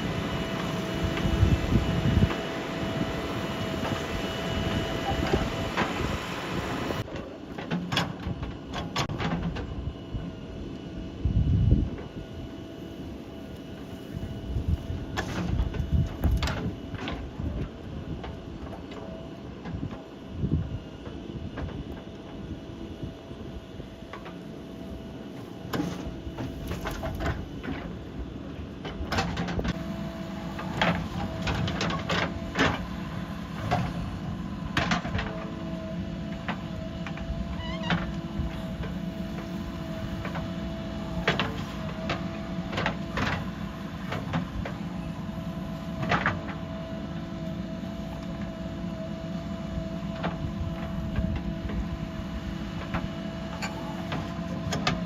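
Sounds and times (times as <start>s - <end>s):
diesel engine running: 0.0s - 55.0s
hydraulic whine: 0.0s - 55.0s.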